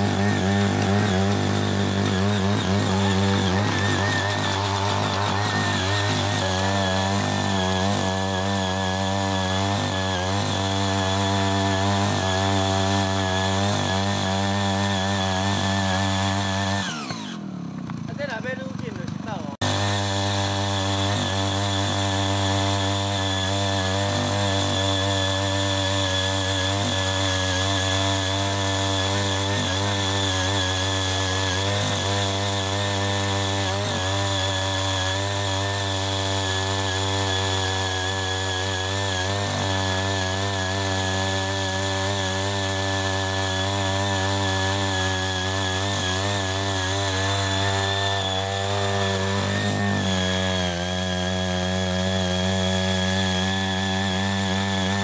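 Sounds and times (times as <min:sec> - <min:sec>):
small tiller engine running: 0:00.0 - 0:55.0.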